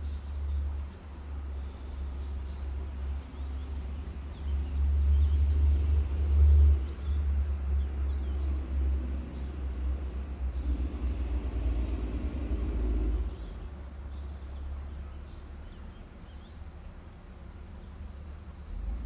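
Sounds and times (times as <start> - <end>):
truck rumbling: 0.0 - 19.0.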